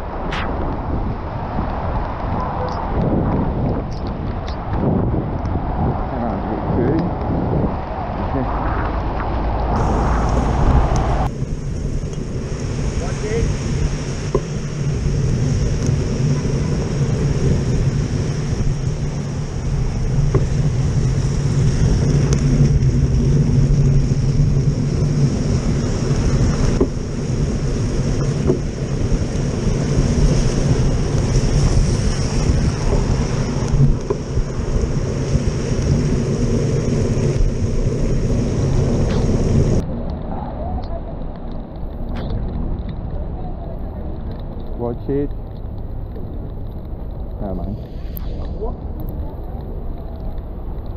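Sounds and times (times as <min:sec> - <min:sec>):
bicycle tyres hissing on wet road: 0:00.0 - 0:50.9
wind noise on microphone: 0:00.0 - 0:50.9.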